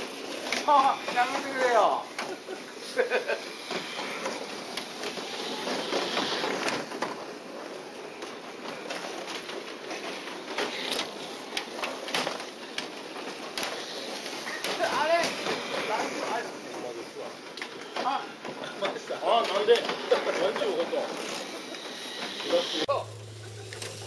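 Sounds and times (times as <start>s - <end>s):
electric toy cars whirring: 0.0s - 24.0s.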